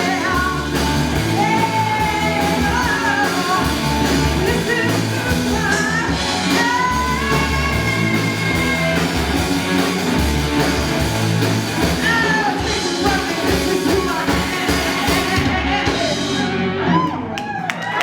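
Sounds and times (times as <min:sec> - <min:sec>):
person singing: 0:00.0 - 0:09.4, 0:11.8 - 0:17.0
drums: 0:00.0 - 0:18.0
electric guitar: 0:00.0 - 0:18.0.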